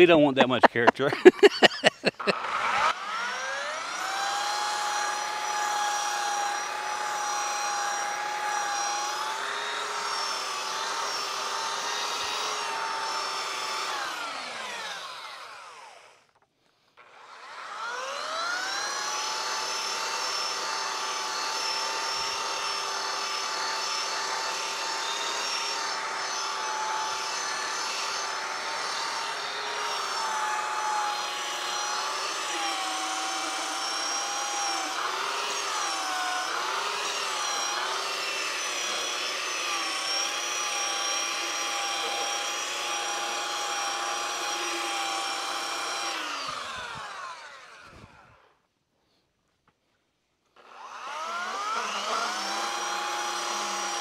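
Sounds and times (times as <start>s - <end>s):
electric sander whining: 0.0s - 16.4s, 17.0s - 48.5s, 50.6s - 54.0s.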